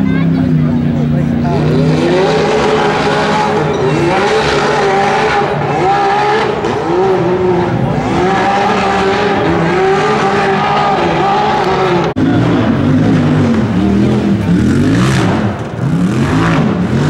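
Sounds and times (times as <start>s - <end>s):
off-road vehicle engine revving: 0.0s - 17.0s
tires spinning: 0.0s - 17.0s.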